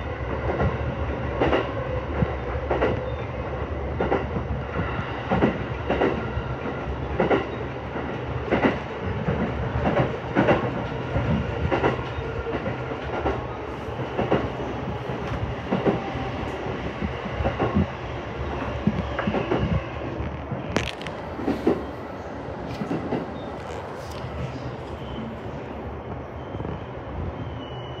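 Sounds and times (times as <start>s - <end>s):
train low rumble: 0.0s - 28.0s.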